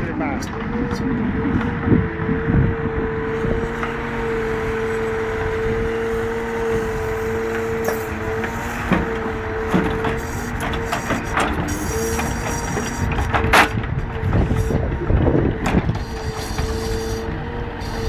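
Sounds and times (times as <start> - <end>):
diesel engine running under load: 0.0 - 18.0
steady whine: 0.0 - 18.0.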